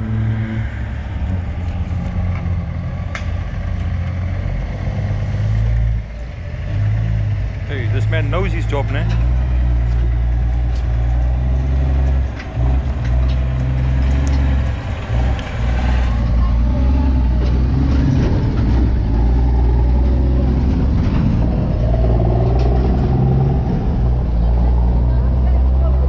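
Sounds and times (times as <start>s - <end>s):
large vehicle engine idling: 0.0s - 26.0s.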